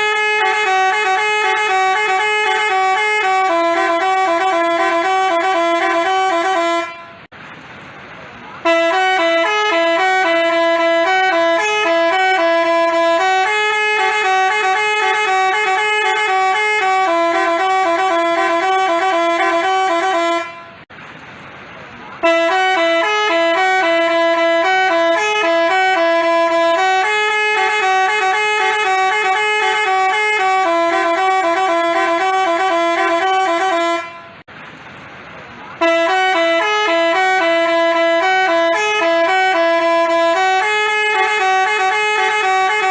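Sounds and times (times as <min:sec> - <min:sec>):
musical bus horn tune: 0:00.0 - 0:07.3, 0:08.6 - 0:20.9, 0:22.2 - 0:34.5, 0:35.8 - 0:42.9.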